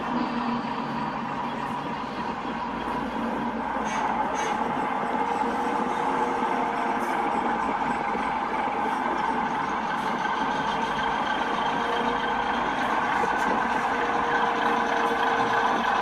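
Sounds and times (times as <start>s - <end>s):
model train diesel engine whine: 0.0s - 16.0s
model train rolling on track: 0.0s - 16.0s.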